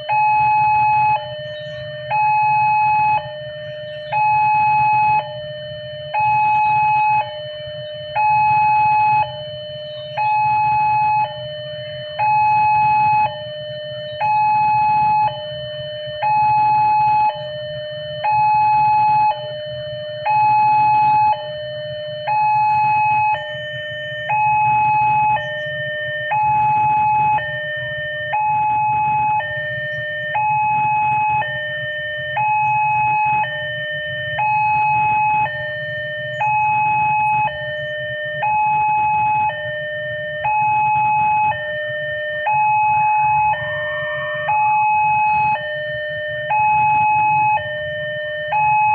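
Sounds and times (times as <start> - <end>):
level crossing two-tone alarm: 0.0 - 48.9.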